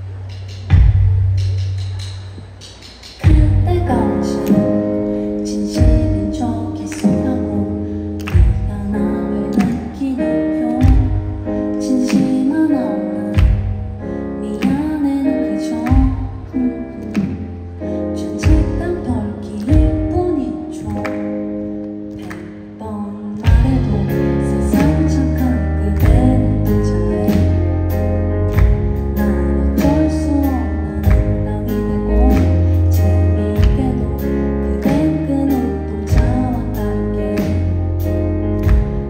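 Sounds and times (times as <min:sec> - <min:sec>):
bass: 0:00.0 - 0:39.0
drums: 0:00.0 - 0:39.0
keyboard: 0:00.0 - 0:39.0
woman singing into microphone: 0:03.2 - 0:21.7, 0:22.7 - 0:28.0, 0:29.1 - 0:37.8.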